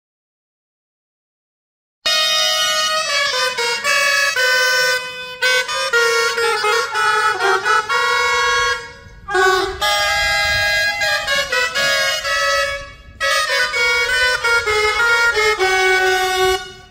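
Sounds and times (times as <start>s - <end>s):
shawms playing reedy melody: 2.1s - 16.9s.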